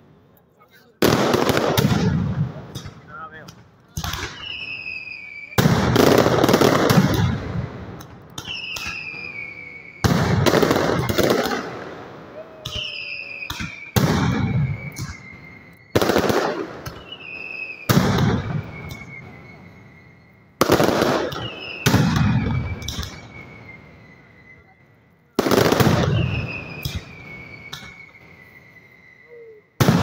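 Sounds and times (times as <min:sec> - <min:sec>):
firecracker bangs: 0:01.0 - 0:04.7, 0:05.5 - 0:19.8, 0:20.6 - 0:23.9, 0:25.4 - 0:28.6, 0:29.8 - 0:30.0
falling high whistles: 0:04.2 - 0:06.7, 0:08.4 - 0:30.0.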